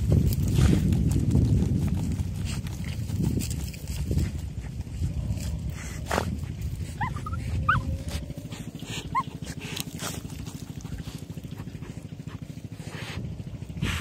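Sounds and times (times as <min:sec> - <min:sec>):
dogs scratching in soil and straw: 0:00.0 - 0:14.0
dogs snuffling: 0:00.0 - 0:14.0.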